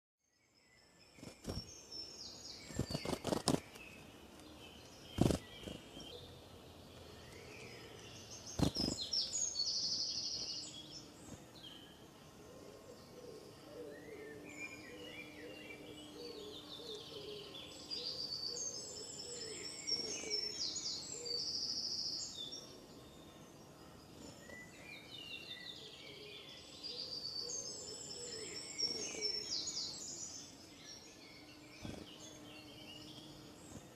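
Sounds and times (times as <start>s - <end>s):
songbirds singing: 0.2s - 33.9s.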